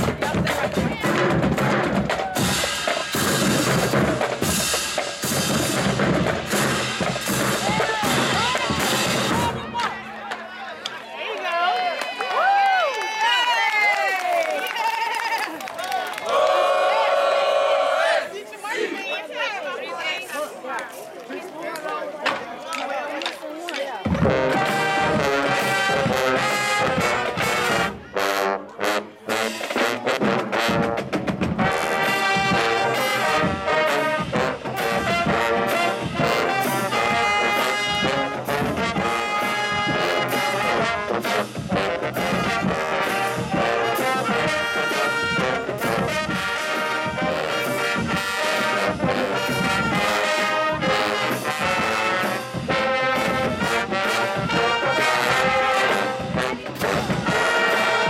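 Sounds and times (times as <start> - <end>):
marching band brass playing: 0.0 - 10.5, 16.3 - 19.1, 24.0 - 58.0.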